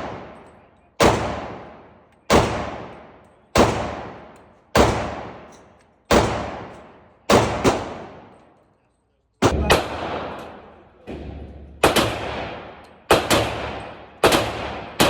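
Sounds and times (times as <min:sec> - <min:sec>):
pistol shots with echo: 0:00.0 - 0:08.5, 0:09.4 - 0:15.0.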